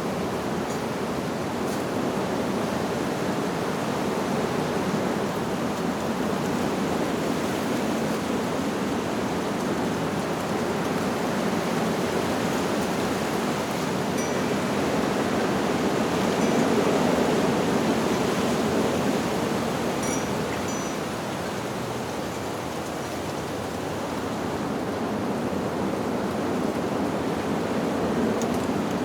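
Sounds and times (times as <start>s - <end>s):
wind blowing through leaves: 0.0s - 29.0s.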